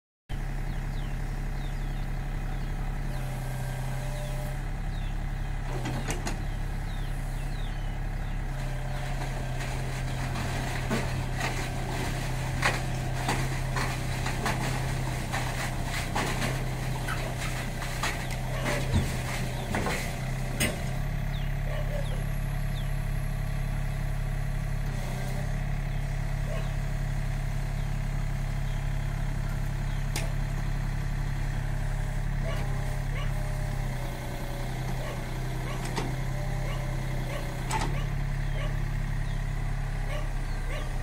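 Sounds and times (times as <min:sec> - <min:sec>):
excavator diesel engine running: 0:00.3 - 0:41.0.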